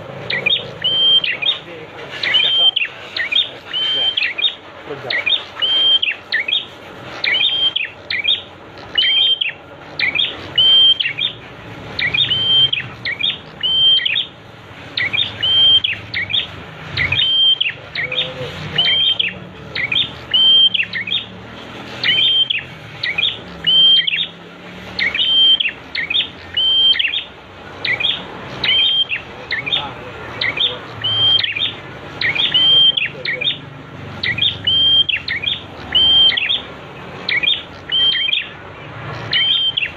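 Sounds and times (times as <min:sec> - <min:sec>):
bird calling sharp high notes: 0:00.0 - 0:39.9.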